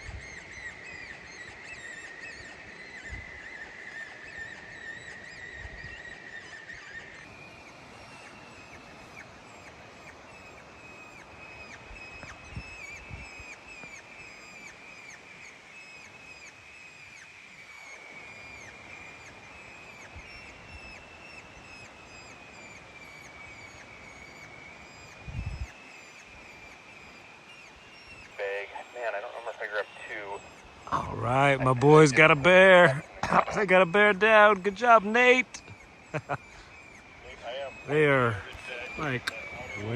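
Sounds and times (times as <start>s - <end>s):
electronic animal call whine: 0.0s - 39.9s
rapid falling chirps: 0.0s - 39.9s.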